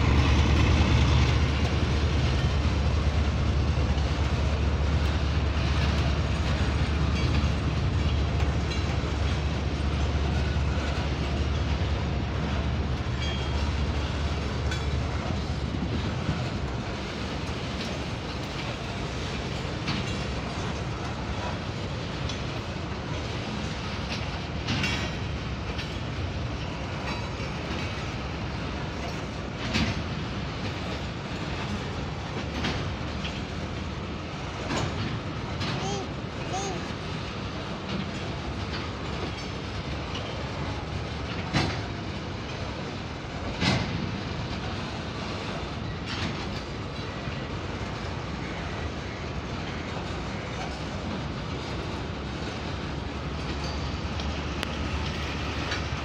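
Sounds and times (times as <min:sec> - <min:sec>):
train wagons rumbling past: 0:00.0 - 0:56.0
wheels clacking over rail joints: 0:00.0 - 0:56.0.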